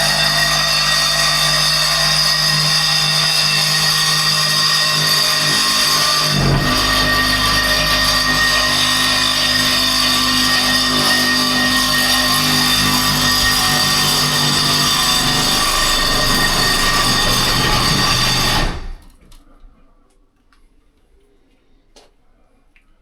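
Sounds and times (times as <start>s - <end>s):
power tool whining: 0.0s - 19.1s.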